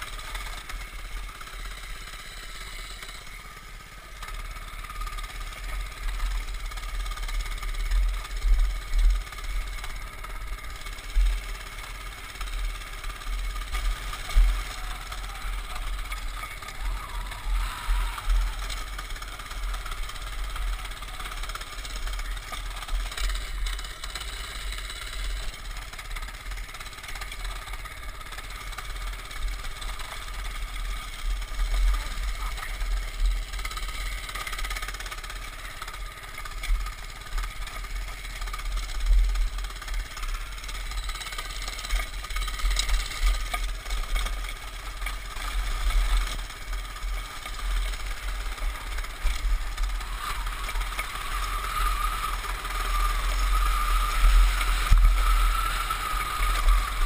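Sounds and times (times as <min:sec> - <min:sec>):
mini bike engine running: 0:00.0 - 0:57.0.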